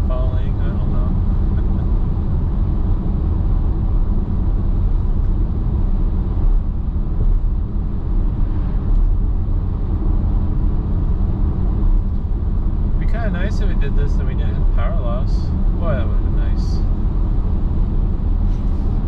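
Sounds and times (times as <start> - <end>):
car engine hum: 0.0 - 19.0
road and tyre rumble: 0.0 - 19.0.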